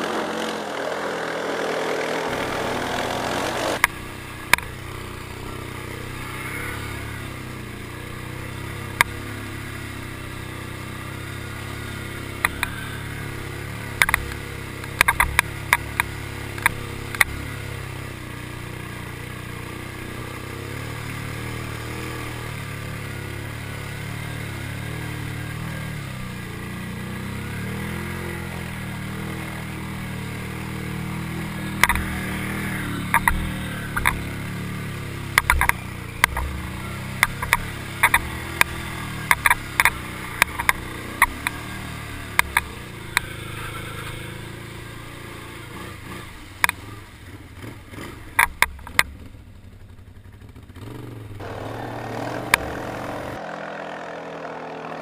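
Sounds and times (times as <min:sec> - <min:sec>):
atv engine under load: 0:00.0 - 0:55.0.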